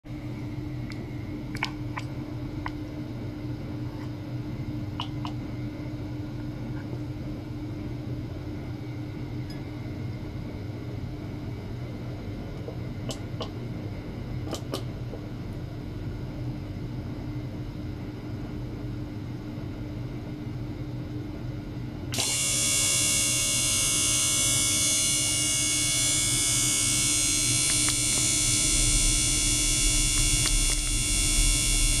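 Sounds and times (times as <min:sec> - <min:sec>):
circulation pump humming: 0:00.1 - 0:32.0.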